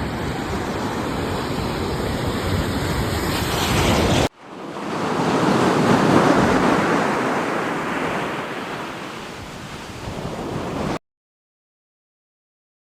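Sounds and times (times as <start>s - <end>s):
sea waves surging onto shore: 0.0s - 11.0s.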